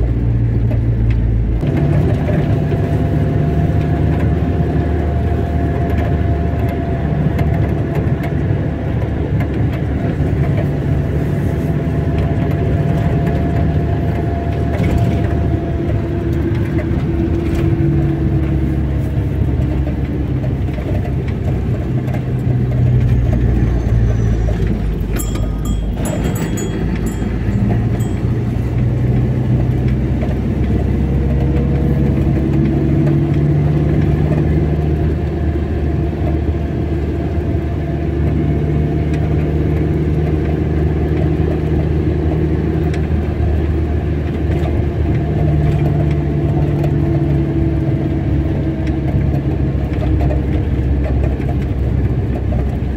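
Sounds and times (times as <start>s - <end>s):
car engine hum: 0.0s - 52.9s.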